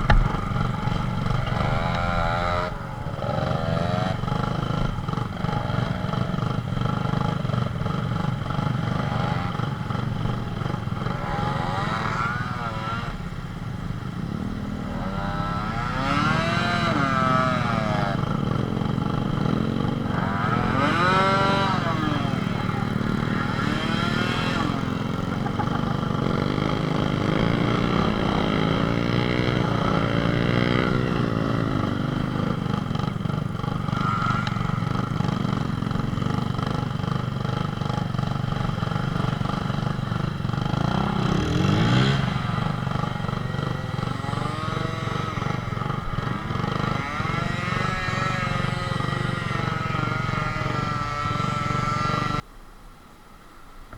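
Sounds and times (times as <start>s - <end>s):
small motorcycle engines revving: 0.0s - 52.4s.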